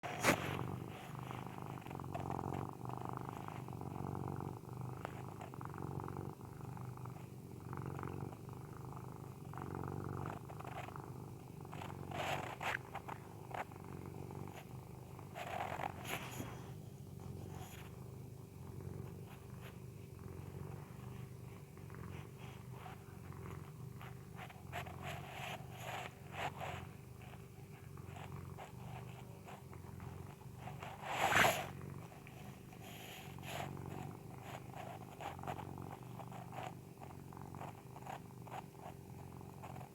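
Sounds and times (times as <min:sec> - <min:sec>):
cat snoring: 0:00.0 - 0:39.9.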